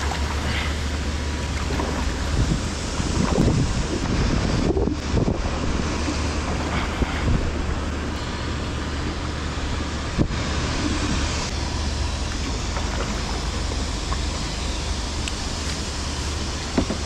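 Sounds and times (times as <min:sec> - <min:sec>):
river water rushing: 0:00.0 - 0:17.0
wind buffeting microphone: 0:01.3 - 0:17.0.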